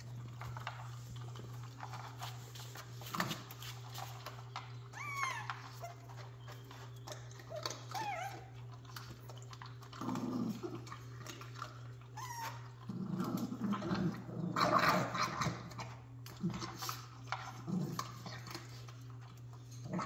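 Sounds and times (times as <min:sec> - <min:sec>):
puppies growling: 0:00.0 - 0:20.0
puppies scuffling: 0:00.0 - 0:20.0
puppies whining: 0:00.0 - 0:20.0.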